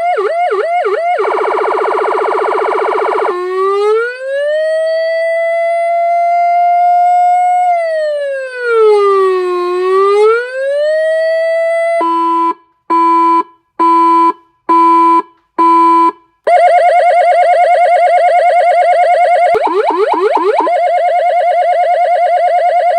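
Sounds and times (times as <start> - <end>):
siren cycling through tones: 0.0 - 12.3, 16.5 - 22.9.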